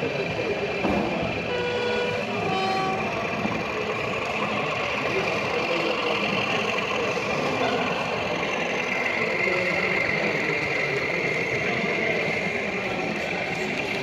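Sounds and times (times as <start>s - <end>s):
model locomotive diesel engine idling: 0.0s - 14.0s.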